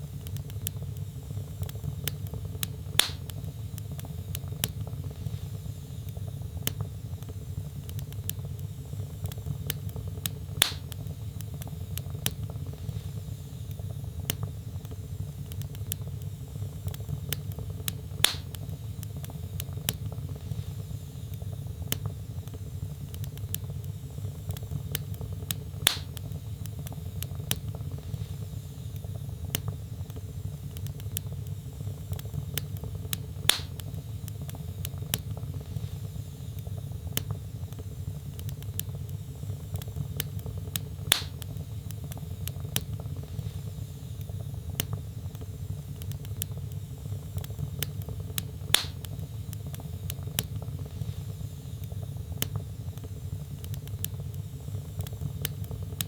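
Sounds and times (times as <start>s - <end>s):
fire popping: 0.0s - 56.0s
wood fire crackling: 0.0s - 56.0s.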